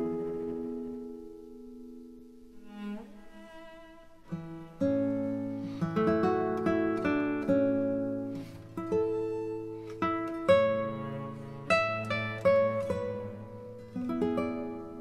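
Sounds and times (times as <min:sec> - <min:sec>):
plucked strings slow melody: 0:00.0 - 0:15.0.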